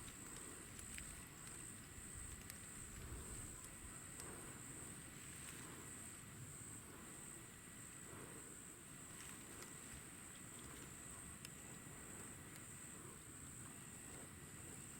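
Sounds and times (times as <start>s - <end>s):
insects trilling: 0.0s - 14.9s
low open-air rumble: 0.0s - 14.9s.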